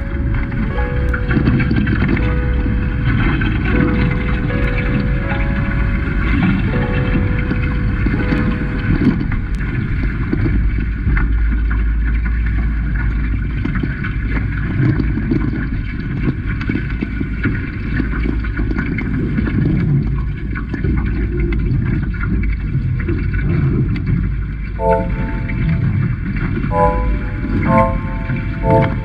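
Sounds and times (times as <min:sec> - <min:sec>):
water rushing along hulls: 0:00.0 - 0:29.0.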